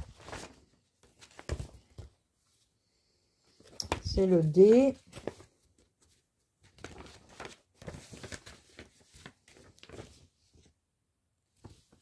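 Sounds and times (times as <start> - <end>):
paper rustling: 0.0 - 2.7, 3.5 - 10.8, 11.6 - 12.0.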